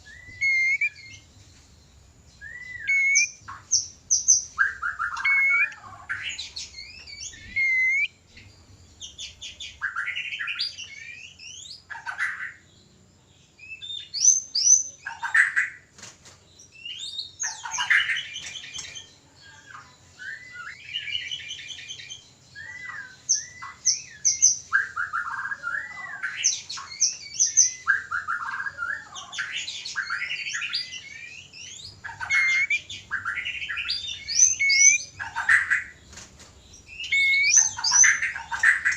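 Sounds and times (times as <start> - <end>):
birds whistling and chattering: 0.0 - 38.9.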